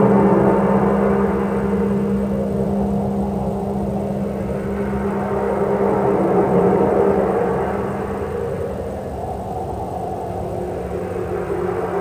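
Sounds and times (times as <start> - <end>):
dark ambient drone music: 0.0 - 12.0.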